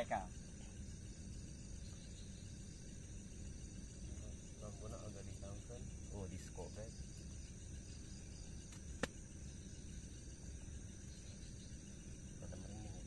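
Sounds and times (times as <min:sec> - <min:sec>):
crickets chirping: 0:00.0 - 0:13.0
low background hiss: 0:00.0 - 0:13.0.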